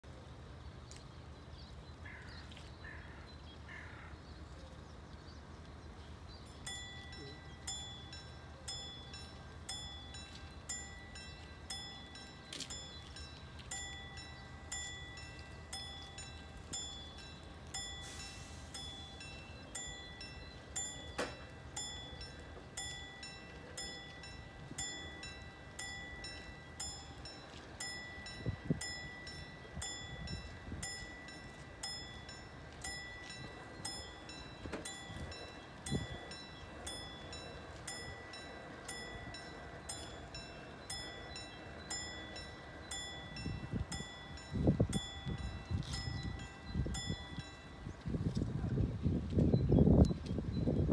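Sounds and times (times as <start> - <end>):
level crossing warning bell: 5.8 - 50.9.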